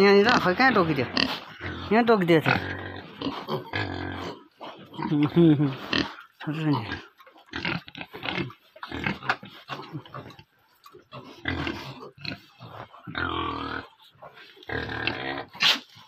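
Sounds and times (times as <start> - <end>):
pigs grunting: 0.0 - 16.0.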